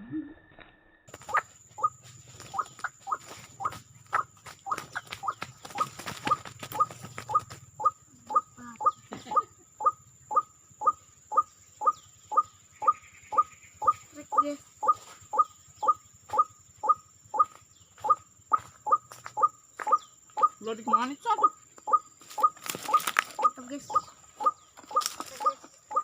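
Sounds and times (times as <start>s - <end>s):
waterhen calling: 1.1s - 26.0s.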